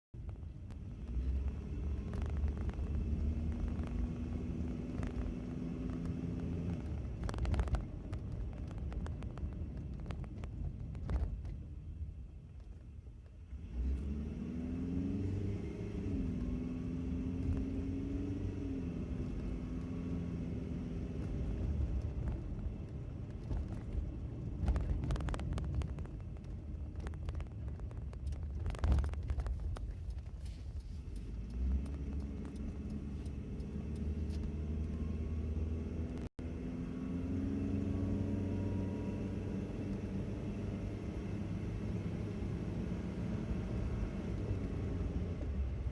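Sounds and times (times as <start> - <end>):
car engine humming drone: 0.2 - 45.9.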